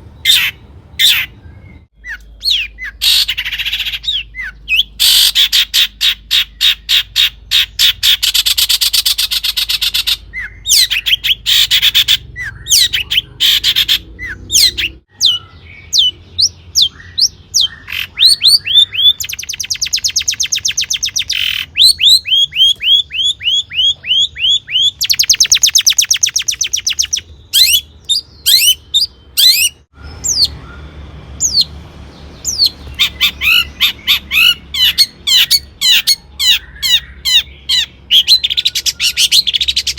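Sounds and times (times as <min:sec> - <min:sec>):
shrike singing chattering whistles: 0:00.2 - 0:31.7, 0:32.4 - 0:39.9.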